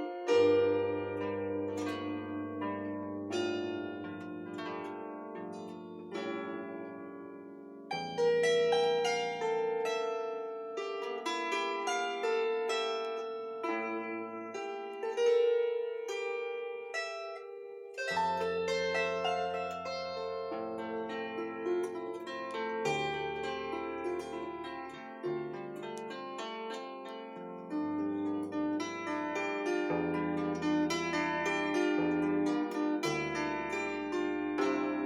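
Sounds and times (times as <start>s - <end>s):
plucked bandura melody: 0.0s - 35.0s.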